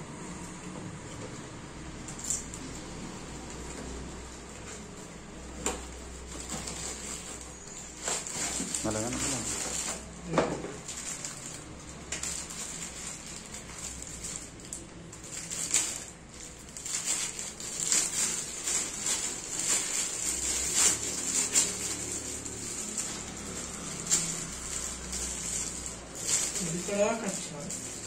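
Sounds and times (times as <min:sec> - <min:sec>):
plastic film crinkling: 0:02.1 - 0:28.0.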